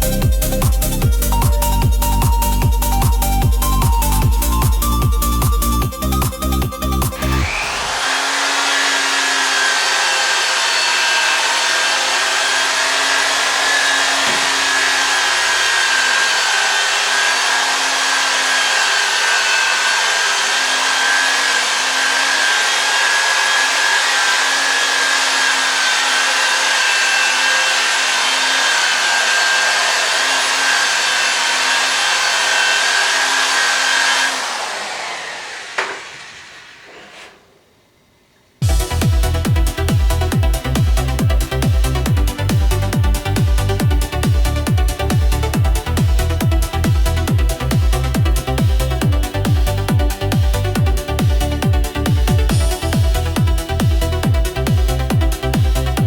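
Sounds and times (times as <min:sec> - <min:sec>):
small electric motor running: 0:00.0 - 0:37.3, 0:38.6 - 0:56.0.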